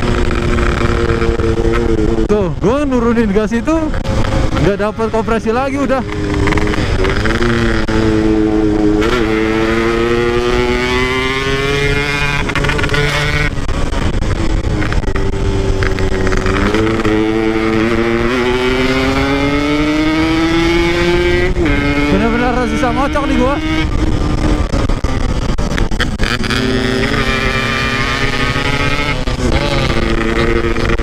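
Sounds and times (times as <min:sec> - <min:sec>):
motorcycle engine running: 0:00.0 - 0:31.0
wind rush: 0:00.0 - 0:31.0.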